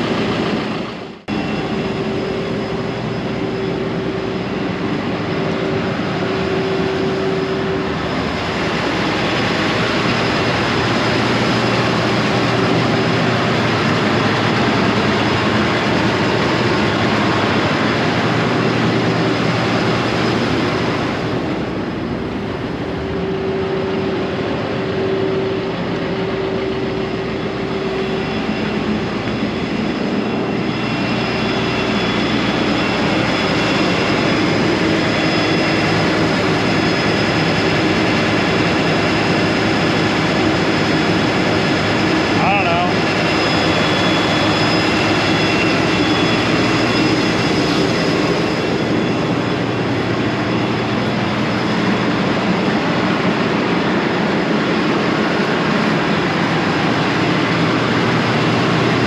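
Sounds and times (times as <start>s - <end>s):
fan blowing rush of air: 0.0s - 59.0s.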